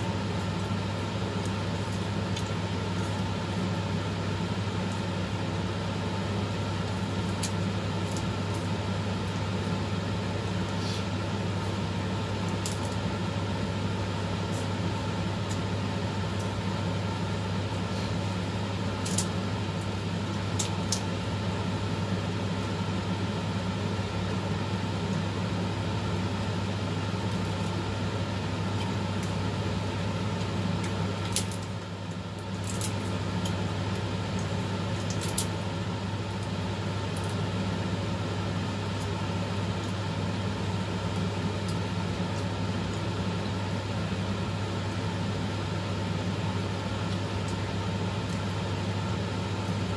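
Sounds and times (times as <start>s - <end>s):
low machine hum: 0.0s - 49.9s.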